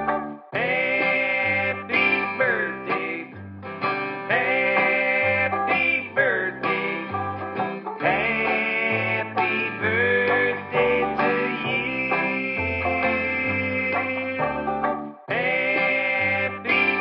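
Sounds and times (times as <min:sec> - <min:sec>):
country music with plucked strings: 0:00.0 - 0:17.0.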